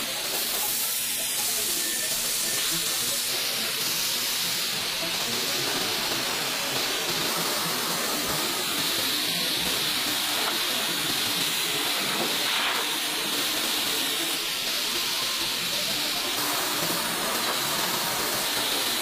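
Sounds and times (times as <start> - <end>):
industrial machinery hissing: 0.0 - 19.0.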